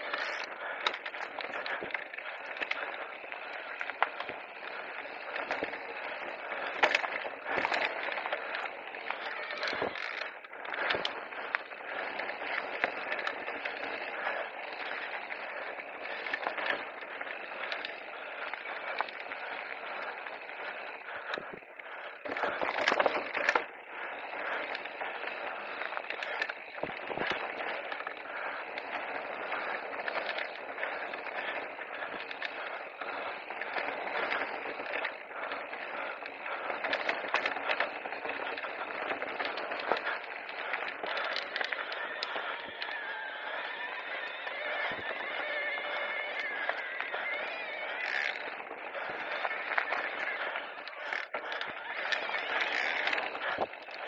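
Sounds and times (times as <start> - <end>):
bike tyres crunching on gravel: 0.0 - 54.0
stones and bike rattling: 0.0 - 54.0.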